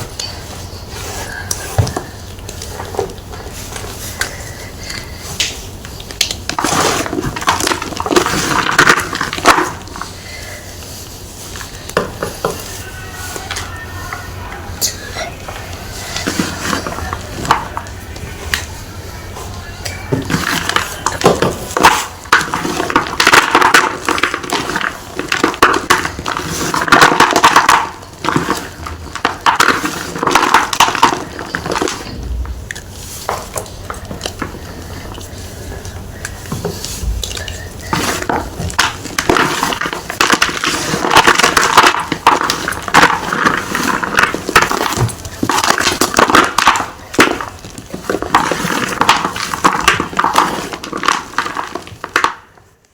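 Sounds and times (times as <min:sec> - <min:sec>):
chalk block crunching: 0:00.0 - 0:14.3, 0:14.9 - 0:52.6.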